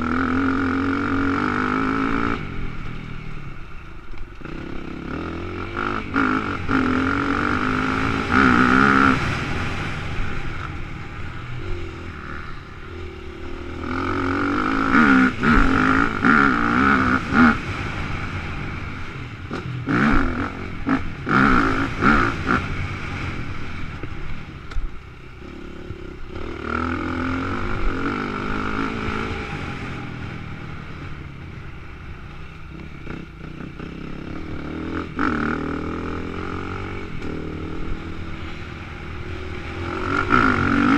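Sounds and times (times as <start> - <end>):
dirt bike engine revving: 0.0 - 3.4, 4.4 - 24.5, 25.4 - 40.9.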